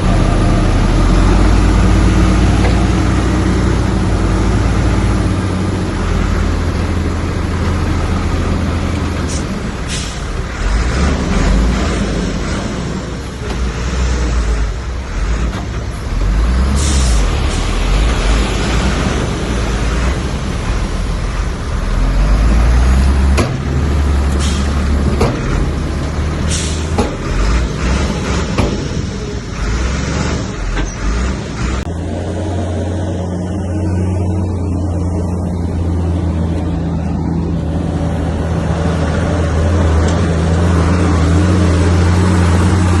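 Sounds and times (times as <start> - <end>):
diesel engine rumble: 0.0 - 43.0.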